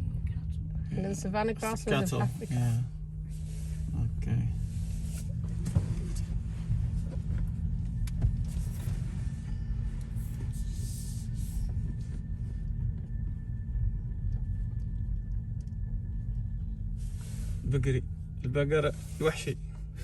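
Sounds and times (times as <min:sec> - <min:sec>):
car cabin rumble: 0:00.0 - 0:20.0.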